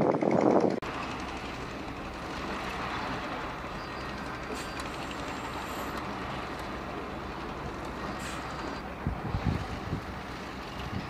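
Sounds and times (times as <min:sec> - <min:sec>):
heavy diesel machinery running: 0:00.0 - 0:11.0.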